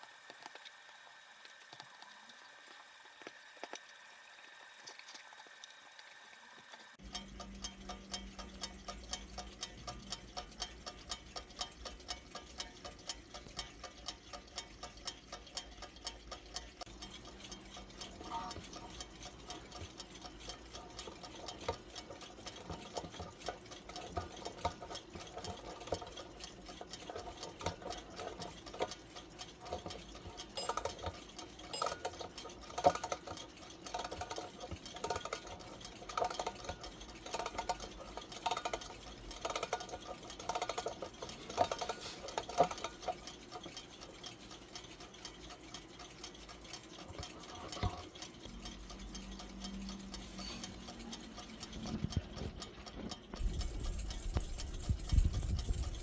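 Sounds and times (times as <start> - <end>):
alarm clock ticking fast: 7.0 - 56.0
irregular clicks and rattles: 7.0 - 56.0.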